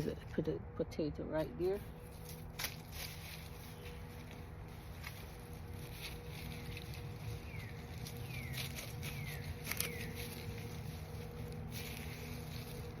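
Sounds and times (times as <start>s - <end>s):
soil and plants rustling: 1.2s - 13.0s.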